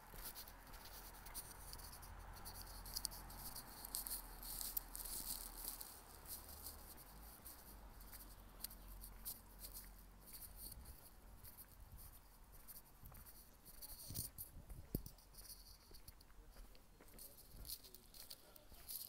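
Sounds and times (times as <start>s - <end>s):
crackle of small high ticks: 0.1s - 19.0s.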